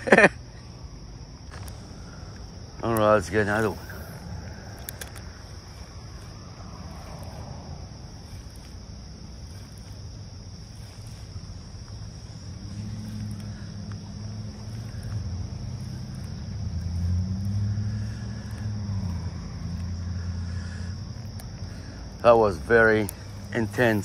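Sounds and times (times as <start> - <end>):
high-pitched insect chorus: 0.0 - 24.0
passing vehicle engine hum: 0.4 - 24.0.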